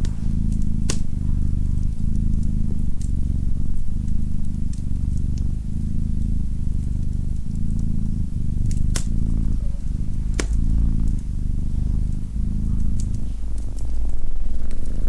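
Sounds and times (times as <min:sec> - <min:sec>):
cat purring: 0:00.0 - 0:15.0
wood fire crackles: 0:00.0 - 0:15.0.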